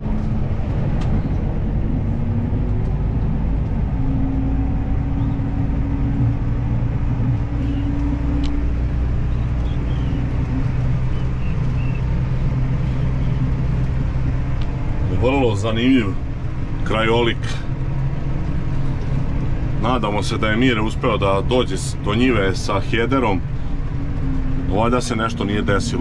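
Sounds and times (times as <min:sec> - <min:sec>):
road noise: 0:00.0 - 0:26.0
vehicle engine drone: 0:00.0 - 0:26.0.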